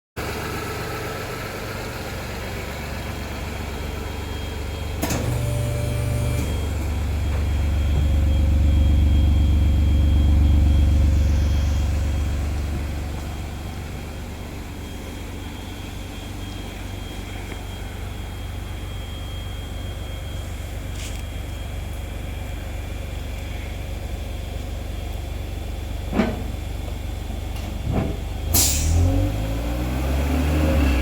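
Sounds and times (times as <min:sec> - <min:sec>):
car exhaust idling hum: 0:00.2 - 0:31.0.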